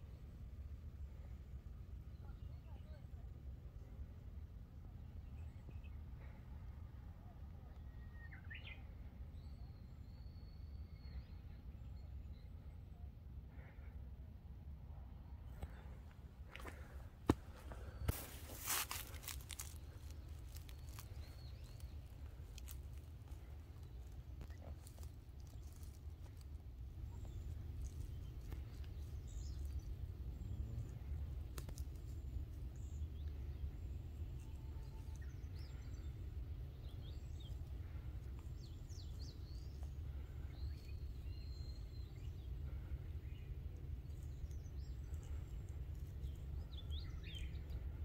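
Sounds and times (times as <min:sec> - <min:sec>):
steady low rumble: 0:00.0 - 0:48.0
wild birds chirping: 0:00.0 - 0:48.0.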